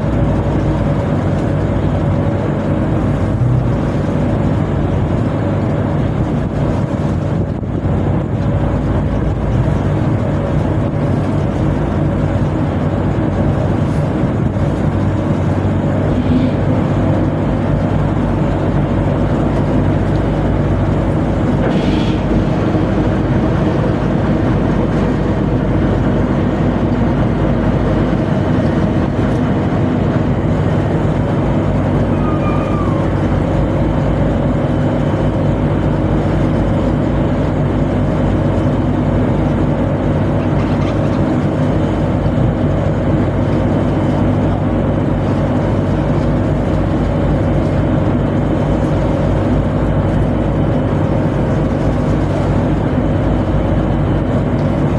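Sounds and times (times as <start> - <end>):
diesel engines droning: 0.0 - 54.9.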